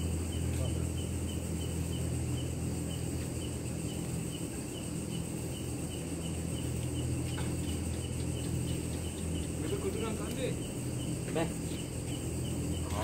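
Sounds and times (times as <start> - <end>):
insect chirps: 0.0 - 13.0
insects high-pitched drone: 0.0 - 13.0.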